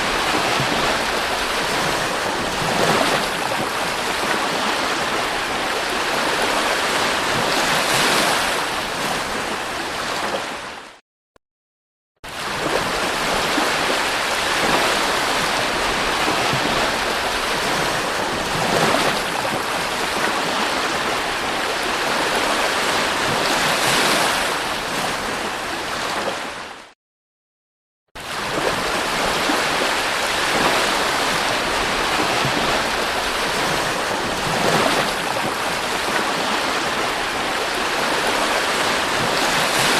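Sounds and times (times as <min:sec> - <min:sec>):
waves washing onto a beach: 0:00.0 - 0:11.0, 0:12.3 - 0:26.9, 0:28.2 - 0:39.9.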